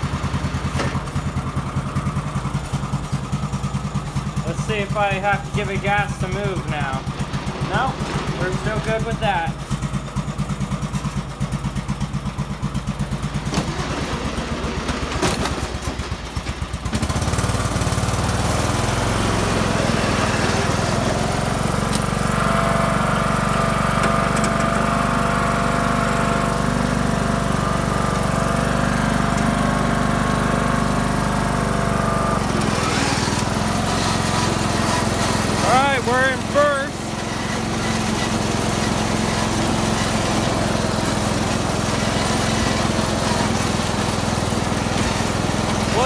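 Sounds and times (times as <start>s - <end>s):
riding mower engine: 0.0s - 46.0s.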